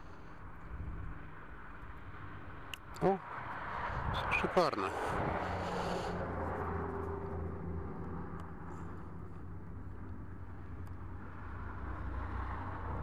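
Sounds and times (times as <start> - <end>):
distant engine humming: 0.0 - 13.0.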